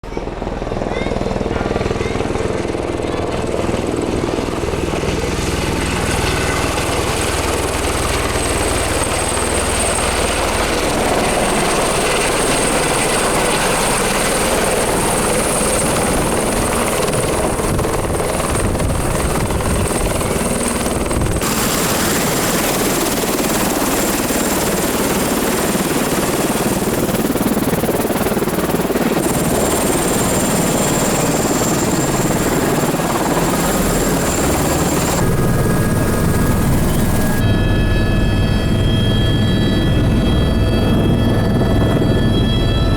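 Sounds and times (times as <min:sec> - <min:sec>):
helicopter engine and rotor: 0:00.0 - 0:42.9
high turbine whine: 0:00.2 - 0:42.9.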